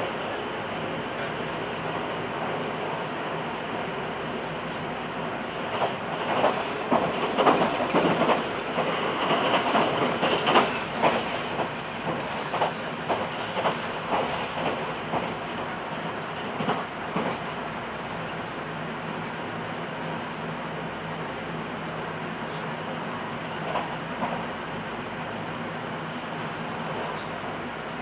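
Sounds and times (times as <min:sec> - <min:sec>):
train rumble: 0:00.0 - 0:28.0
train wheels clattering over track: 0:00.0 - 0:28.0.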